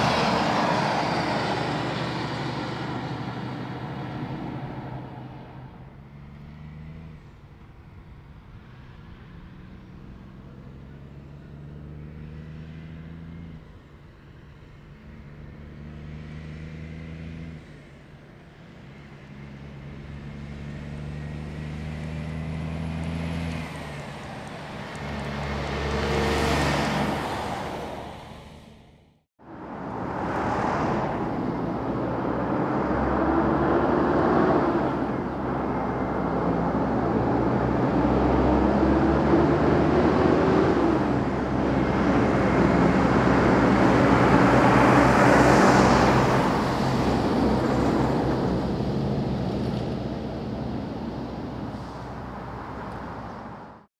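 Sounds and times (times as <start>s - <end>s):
diesel truck engine: 0.0s - 53.9s
truck tyre noise: 0.0s - 53.9s.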